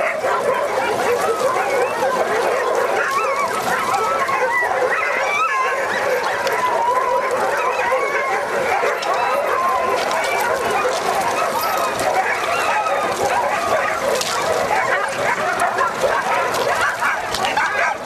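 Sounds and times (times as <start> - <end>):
dogs barking and yipping: 0.0 - 18.0
dogs whining and howling: 0.0 - 18.0.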